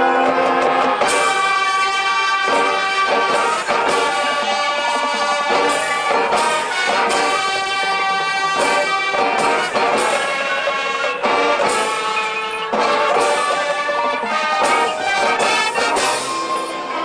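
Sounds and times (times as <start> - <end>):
marching band brass chords: 0.0 - 17.0
percussion accents: 0.0 - 17.0.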